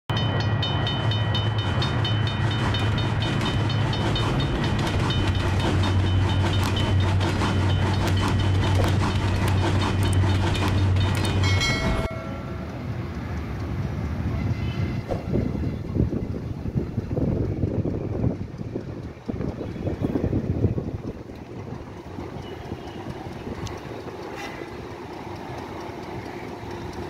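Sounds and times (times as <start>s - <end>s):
outdoor background noise: 0.1s - 27.0s
train rumble: 0.1s - 27.0s
wheels clicking over rail joints: 0.1s - 27.0s.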